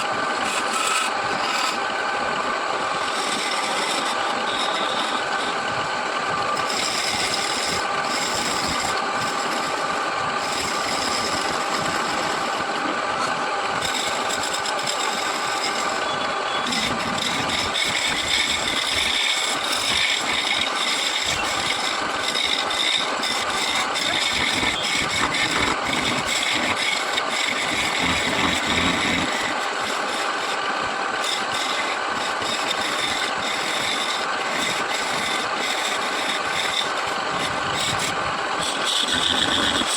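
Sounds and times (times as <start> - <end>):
wood lathe motor humming: 0.0 - 39.9.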